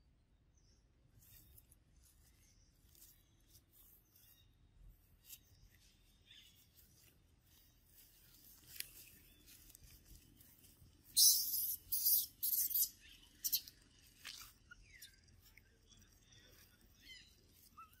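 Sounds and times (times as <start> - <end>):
faint rustles: 1.1 - 18.0
small ticks: 1.2 - 18.0.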